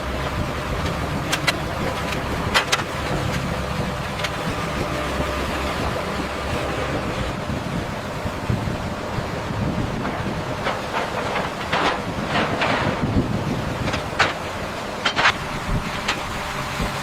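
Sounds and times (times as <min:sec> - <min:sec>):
machinery rumble: 0:00.0 - 0:17.0.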